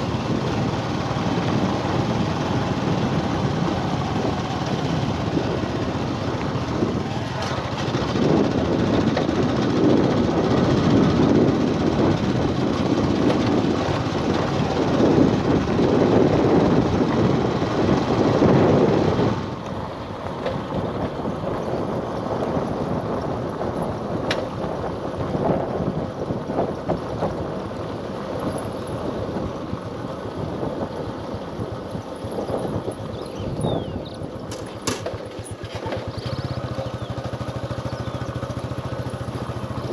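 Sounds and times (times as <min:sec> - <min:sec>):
vehicle noise: 0:00.0 - 0:39.9.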